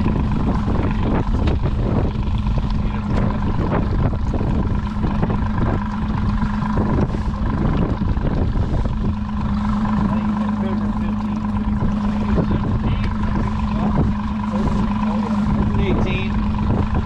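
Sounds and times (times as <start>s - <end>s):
boat motor humming: 0.0s - 17.0s
wind buffeting microphone: 0.0s - 17.0s.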